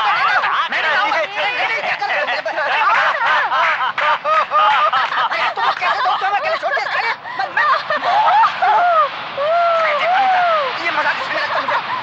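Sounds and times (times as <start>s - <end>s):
people laughing and shrieking: 0.0s - 12.0s.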